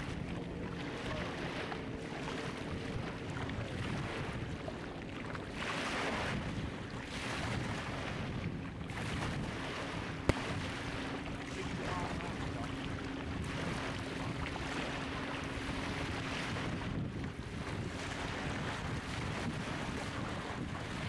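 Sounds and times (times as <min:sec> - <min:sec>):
distant boat motor hum: 0:00.0 - 0:21.0
wind on microphone: 0:00.0 - 0:21.0.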